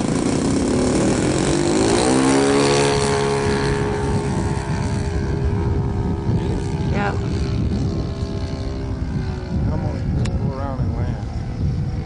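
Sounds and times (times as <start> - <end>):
model airplane engine at full power: 0.0 - 12.0.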